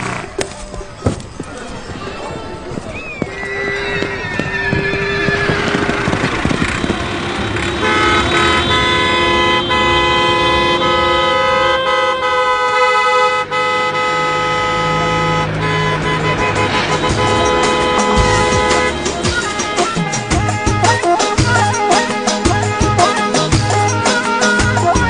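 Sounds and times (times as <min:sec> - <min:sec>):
noisy commotion: 0:00.0 - 0:12.8, 0:13.7 - 0:25.0
loud horn-like tones: 0:03.2 - 0:25.0.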